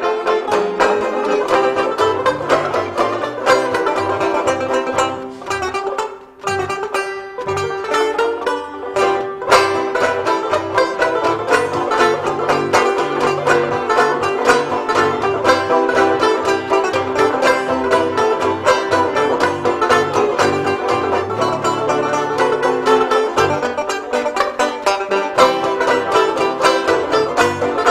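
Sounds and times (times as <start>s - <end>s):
quickly picked banjo: 0.0s - 27.9s.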